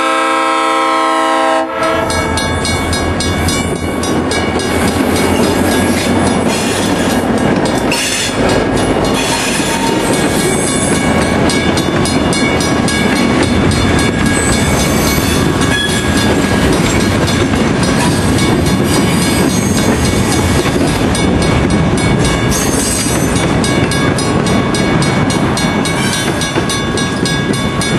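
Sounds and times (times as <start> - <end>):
diesel locomotive passing: 0.0 - 27.9
train wheels on rails: 0.0 - 27.9.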